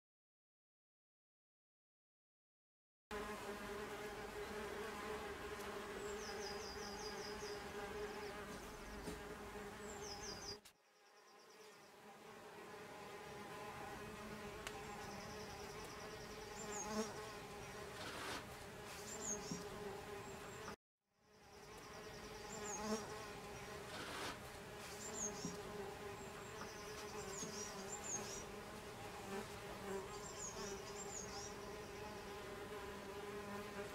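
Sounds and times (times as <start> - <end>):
bees buzzing: 3.1 - 10.6, 11.2 - 20.8, 21.4 - 33.9.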